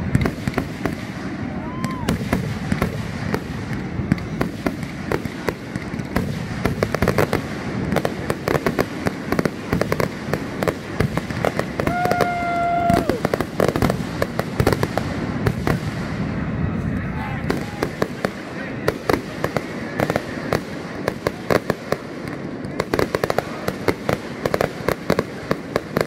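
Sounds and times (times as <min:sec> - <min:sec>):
fireworks barrage: 0:00.0 - 0:26.0.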